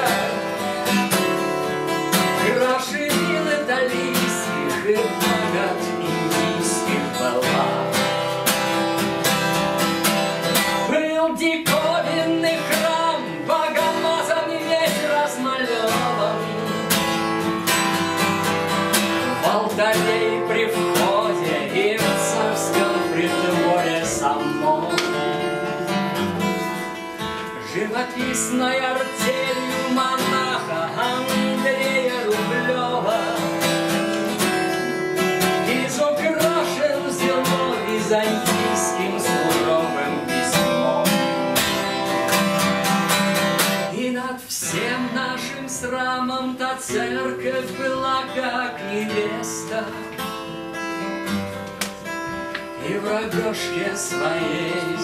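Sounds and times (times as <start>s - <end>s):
man singing: 0.0s - 51.1s, 52.0s - 55.0s
acoustic guitar strumming: 0.0s - 55.0s.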